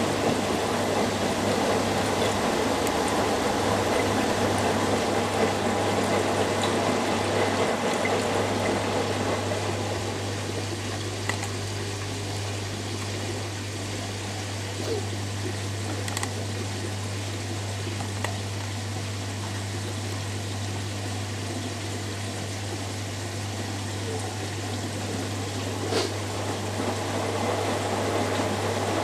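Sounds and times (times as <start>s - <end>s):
washing machine motor hum: 0.0s - 29.0s
water rushing through drain pump: 0.0s - 29.0s.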